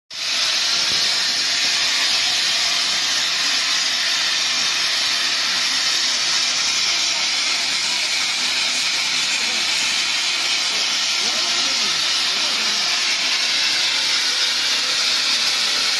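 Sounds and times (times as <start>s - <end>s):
plasma torch hissing: 0.1s - 15.9s.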